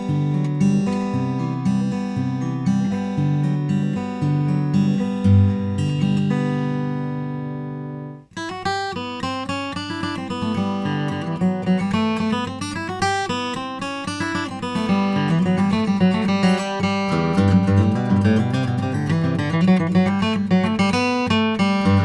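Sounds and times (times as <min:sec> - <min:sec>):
acoustic guitar playing: 0:00.0 - 0:22.0.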